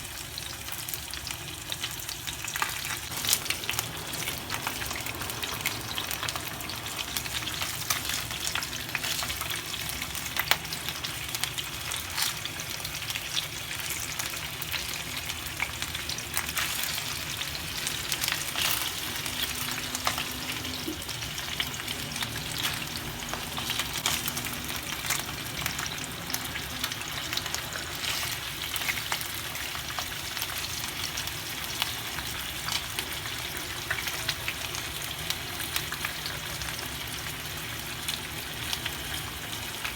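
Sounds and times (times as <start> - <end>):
food frying in hot oil: 0.0 - 39.9.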